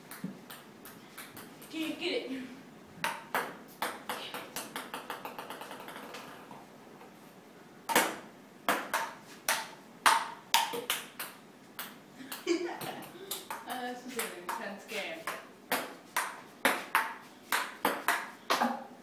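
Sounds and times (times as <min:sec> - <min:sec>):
table tennis ball bouncing: 0:00.1 - 0:01.8, 0:03.0 - 0:06.6, 0:07.9 - 0:18.7.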